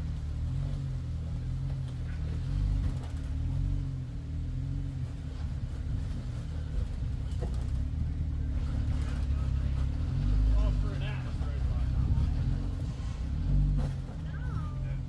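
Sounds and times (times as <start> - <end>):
car engine revving low: 0.0 - 15.0.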